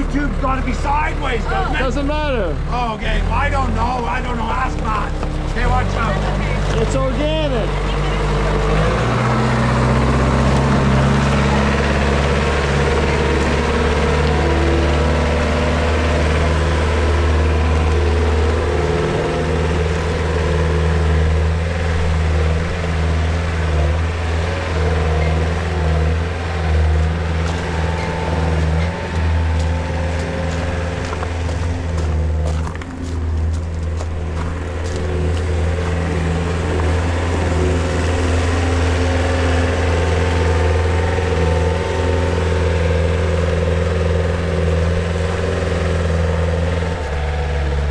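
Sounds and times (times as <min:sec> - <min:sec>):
diesel loader engine running: 0:00.0 - 0:47.9.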